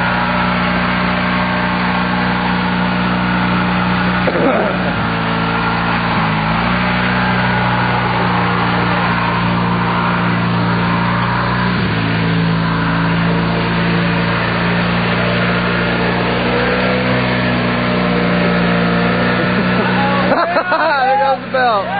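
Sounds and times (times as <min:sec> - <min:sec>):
lawn tractor engine running: 0:00.0 - 0:21.9.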